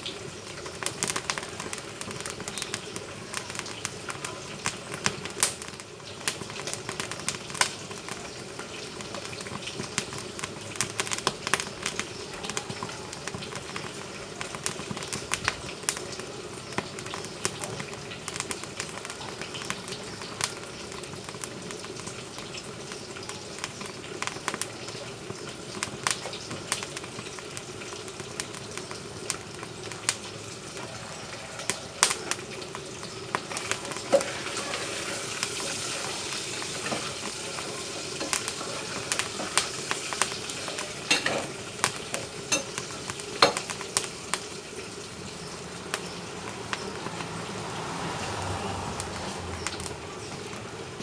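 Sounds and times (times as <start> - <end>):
firewood crackling and popping: 0.0 - 51.0.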